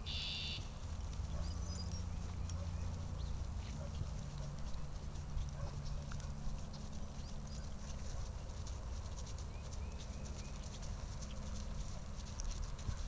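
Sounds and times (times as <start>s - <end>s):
horse hooves trotting on grass: 0.0s - 13.0s.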